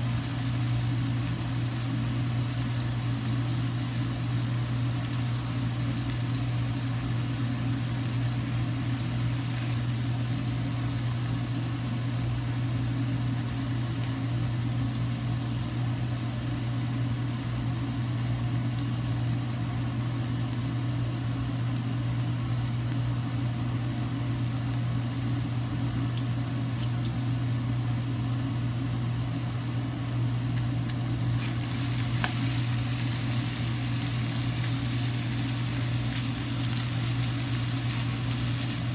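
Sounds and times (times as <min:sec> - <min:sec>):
meat sizzling in a pan: 0:00.0 - 0:38.9
steady low hum: 0:00.0 - 0:38.9.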